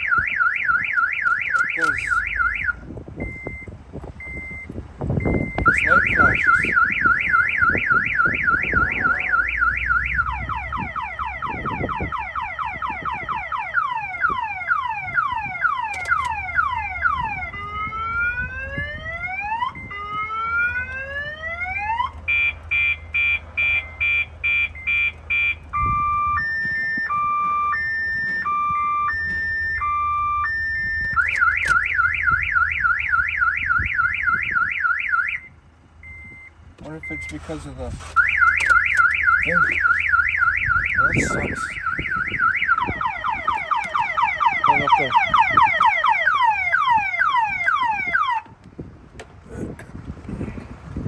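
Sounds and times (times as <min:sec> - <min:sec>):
car alarm siren cycling tones: 0:00.0 - 0:48.9.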